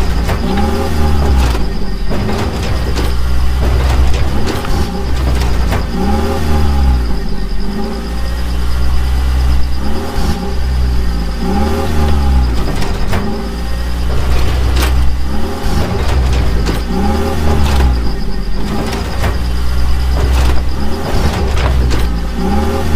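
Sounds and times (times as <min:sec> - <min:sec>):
steady low rumble: 0:00.0 - 0:22.5
engine revving: 0:00.0 - 0:22.9.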